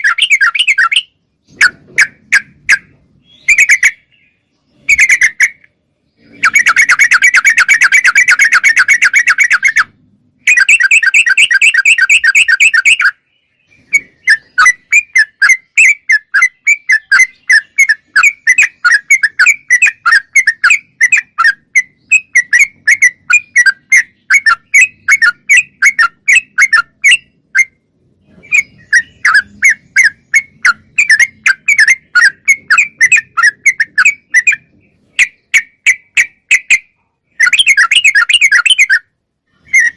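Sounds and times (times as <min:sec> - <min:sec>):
bird singing loudly: 0:00.0 - 0:39.9.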